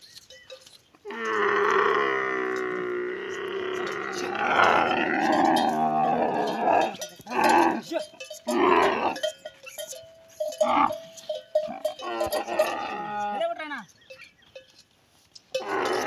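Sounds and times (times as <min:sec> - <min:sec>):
camel bellowing: 0:01.0 - 0:13.5, 0:15.5 - 0:16.0.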